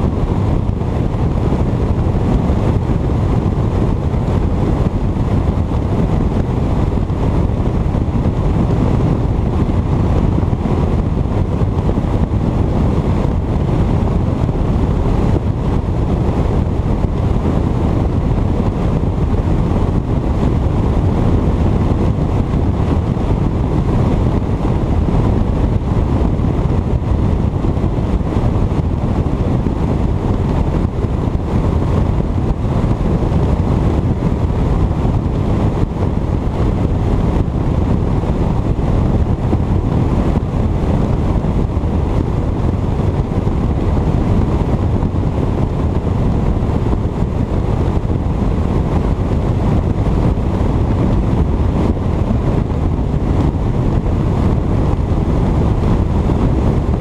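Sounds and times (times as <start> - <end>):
wind rushing on microphone: 0.0 - 57.0.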